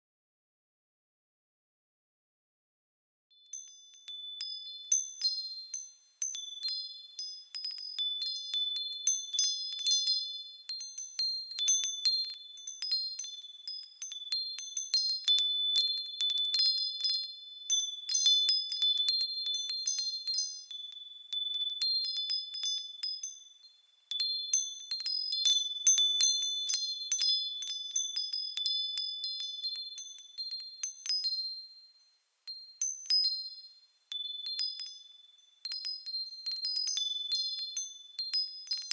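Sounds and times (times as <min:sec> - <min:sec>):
metal wind chimes tinkling: 0:03.4 - 0:38.9.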